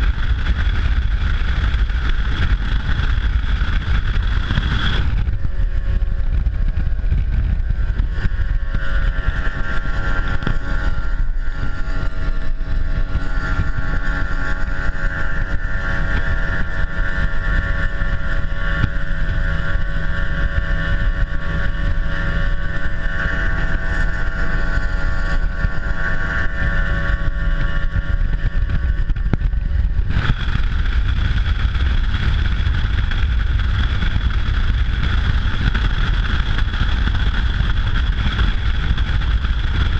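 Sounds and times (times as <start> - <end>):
outboard engine drone: 0.0 - 39.9
wind and hull rush: 0.0 - 39.9.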